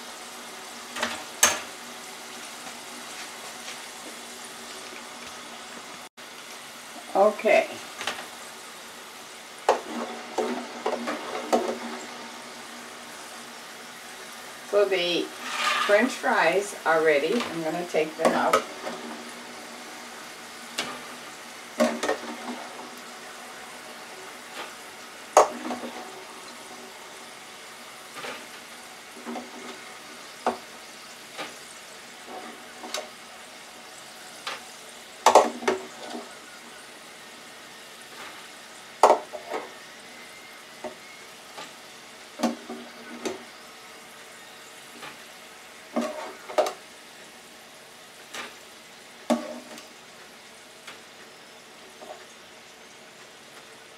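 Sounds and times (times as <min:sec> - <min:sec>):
oil sizzling in deep fryer: 0:00.0 - 0:53.9.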